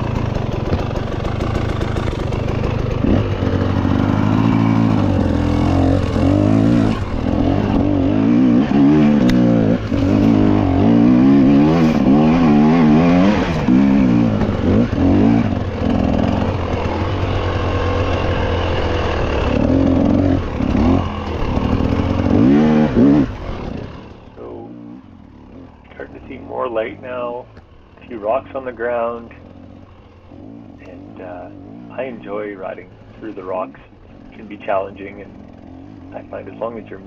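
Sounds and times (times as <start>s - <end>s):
off-road motorcycle engine revving: 0.0s - 37.0s.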